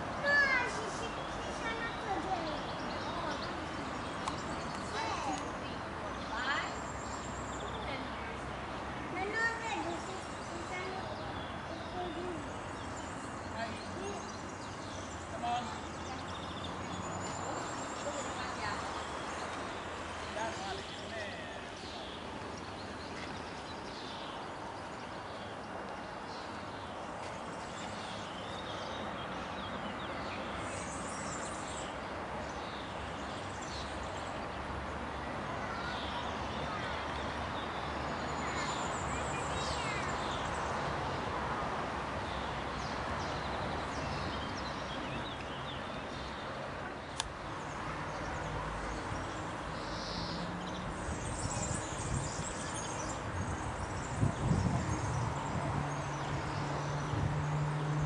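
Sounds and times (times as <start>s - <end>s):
outdoor background noise: 0.0s - 58.0s.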